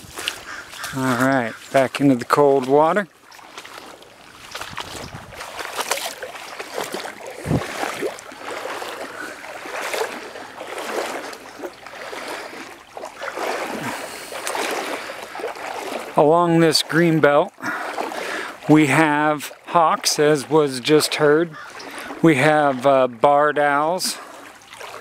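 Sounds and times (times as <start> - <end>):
water sloshing around wading legs: 0.0 - 25.0.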